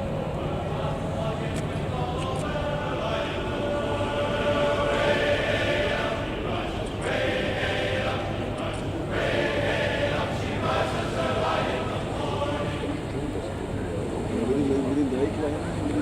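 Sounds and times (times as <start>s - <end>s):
choir singing: 0.4s - 13.6s.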